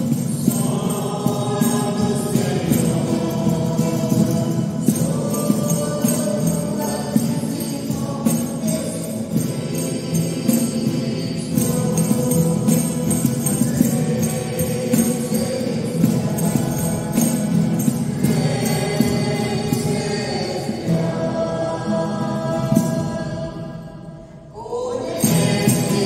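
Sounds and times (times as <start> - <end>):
jingling percussion: 0.0 - 26.0
sustained held accompaniment: 0.0 - 26.0.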